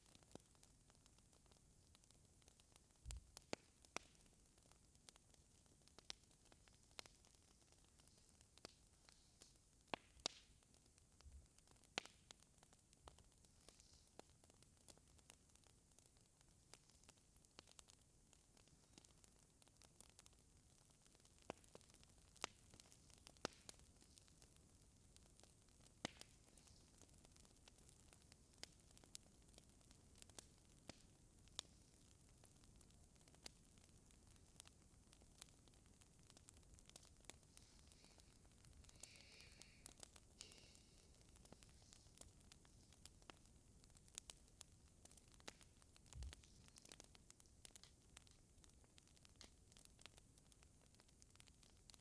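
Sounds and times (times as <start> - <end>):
fireplace fire crackling: 0.0 - 52.0.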